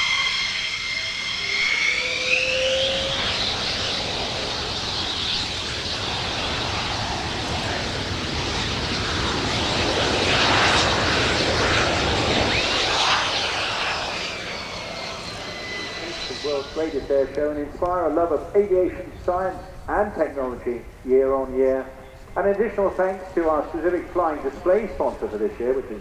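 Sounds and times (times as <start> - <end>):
aircraft flying past: 0.0 - 26.0.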